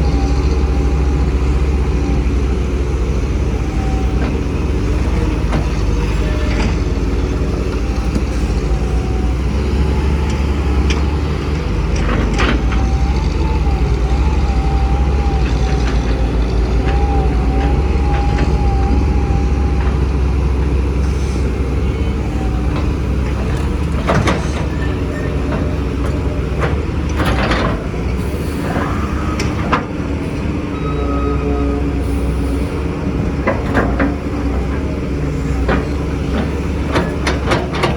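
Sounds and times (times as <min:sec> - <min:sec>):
diesel excavator rumbling: 0:00.0 - 0:37.9.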